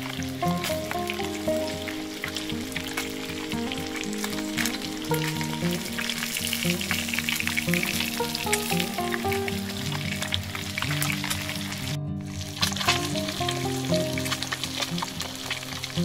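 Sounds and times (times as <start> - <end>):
fish sizzling in a pan: 0.0 - 16.0.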